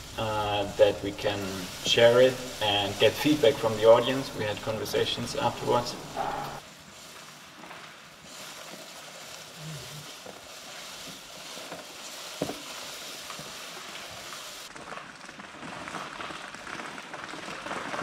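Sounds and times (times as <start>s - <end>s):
crackling rustle of dry materials: 0.0s - 18.0s.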